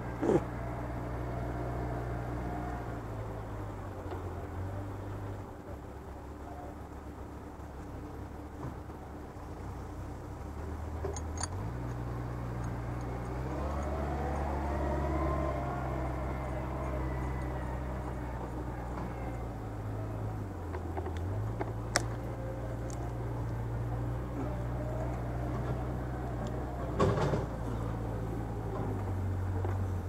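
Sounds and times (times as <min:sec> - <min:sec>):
heavy machine engine running: 0:00.0 - 0:30.0.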